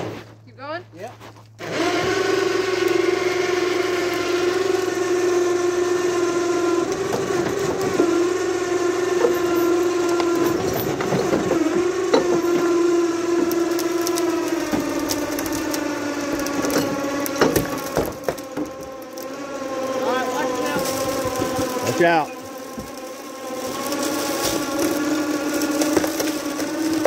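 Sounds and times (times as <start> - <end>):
motor whining under load: 0.0 - 27.0.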